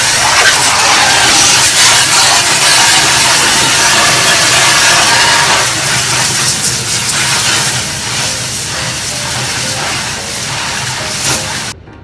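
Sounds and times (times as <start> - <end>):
pressure washer water jet hissing: 0.0 - 11.8.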